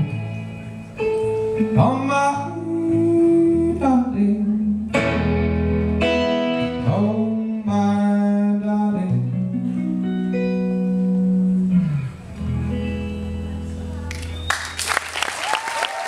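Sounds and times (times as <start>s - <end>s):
acoustic guitar strumming: 0.0s - 14.1s.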